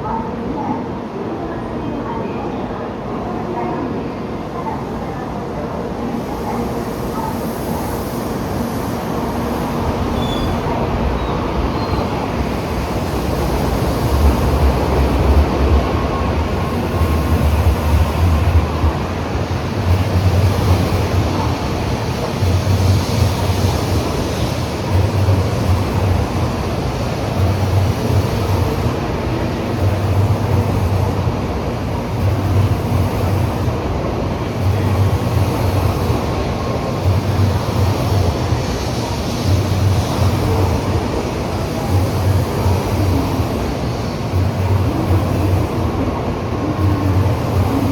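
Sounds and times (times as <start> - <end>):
low train rumble: 0.0 - 47.9
train rolling slowly: 2.4 - 47.9.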